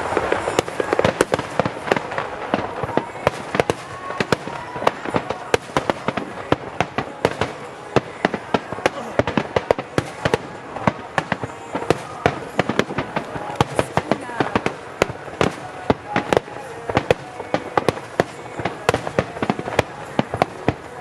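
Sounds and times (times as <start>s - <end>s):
crackle and rumble of fireworks: 0.0s - 21.0s
fireworks shells bursting: 0.0s - 21.0s.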